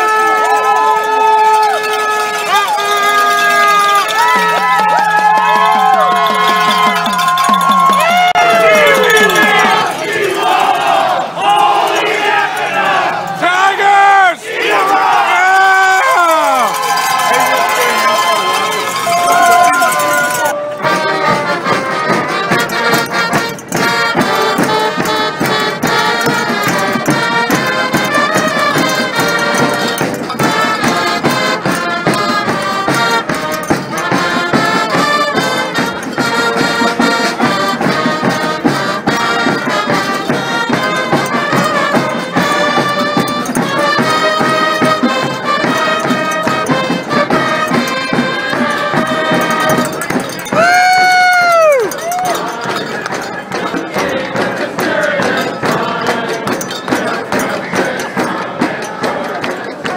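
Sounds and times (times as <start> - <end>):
brass band playing upbeat tune: 0.0 - 59.9.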